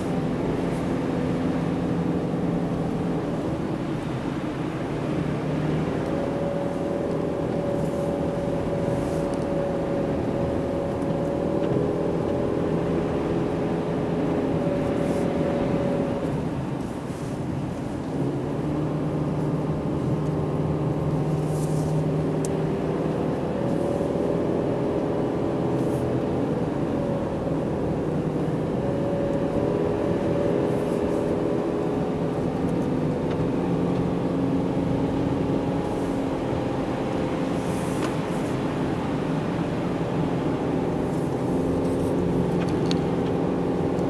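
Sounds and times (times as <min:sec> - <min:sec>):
car engine pulling uphill: 0:00.0 - 0:44.0
road and tyre noise: 0:00.0 - 0:44.0.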